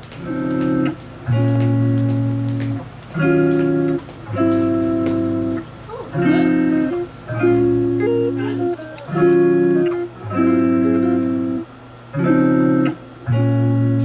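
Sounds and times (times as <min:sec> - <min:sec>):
held instrumental chords: 0:00.0 - 0:14.0.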